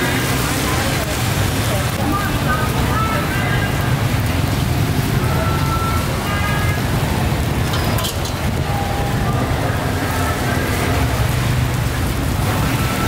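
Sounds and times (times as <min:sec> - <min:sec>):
faint voices: 0:00.0 - 0:13.0
street noise rumble and hiss: 0:00.0 - 0:13.0.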